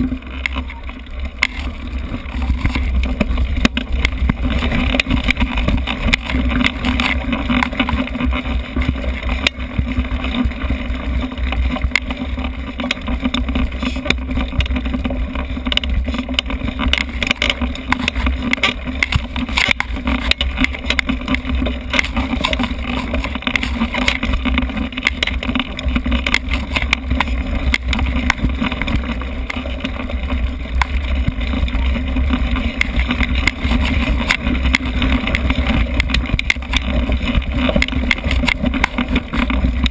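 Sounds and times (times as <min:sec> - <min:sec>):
wind rumble on camera: 0:00.0 - 0:39.9
bike rattling knocks: 0:01.4 - 0:39.9.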